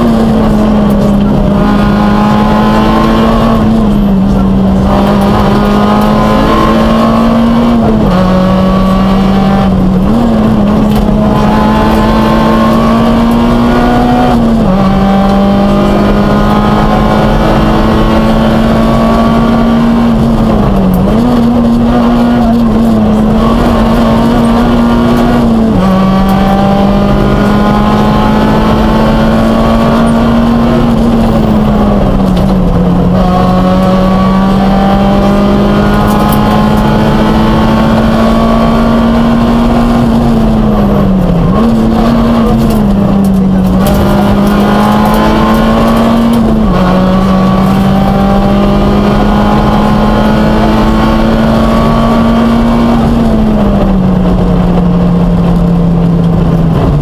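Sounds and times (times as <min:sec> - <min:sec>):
rally car engine running hard: 0:00.0 - 0:57.0.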